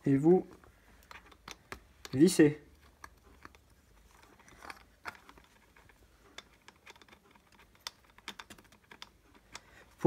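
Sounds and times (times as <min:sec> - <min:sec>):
metal parts tapping: 0:00.5 - 0:10.0
bolt clicking and ticking: 0:01.0 - 0:10.0.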